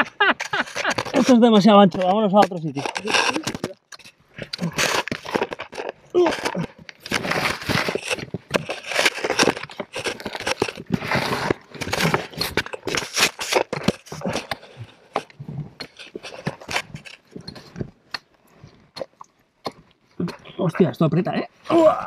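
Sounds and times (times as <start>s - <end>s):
stones and gravel clattering: 0.0s - 18.0s
clothing scraping on rock: 0.0s - 18.8s.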